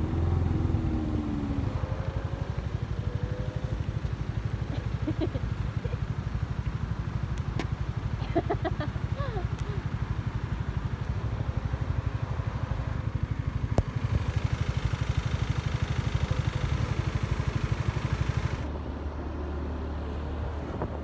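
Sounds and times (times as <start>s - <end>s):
motorcycle engine running: 0.0s - 19.3s.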